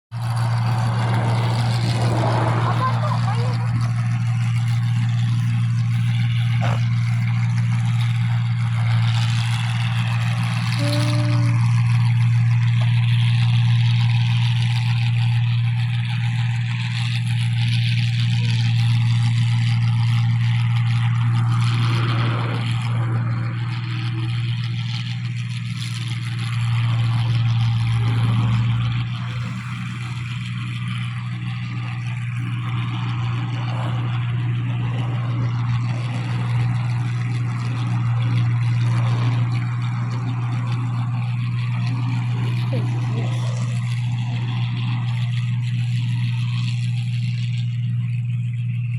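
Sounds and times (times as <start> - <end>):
combine harvester engine drone: 0.0 - 48.9
machinery whirring: 0.1 - 48.9.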